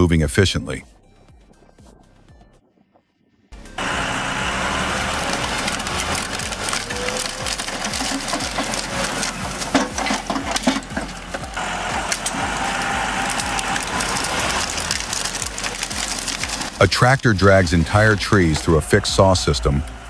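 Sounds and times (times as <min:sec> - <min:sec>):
faint machinery whine: 0:03.2 - 0:20.0
heavy machine engine: 0:03.6 - 0:20.0
wood cracking and splintering: 0:03.6 - 0:20.0.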